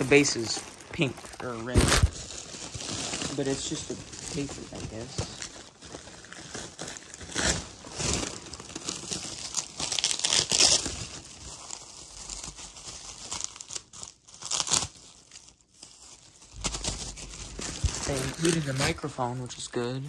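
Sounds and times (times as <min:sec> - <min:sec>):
paper wrapping crinkling and tearing: 0:00.0 - 0:20.0.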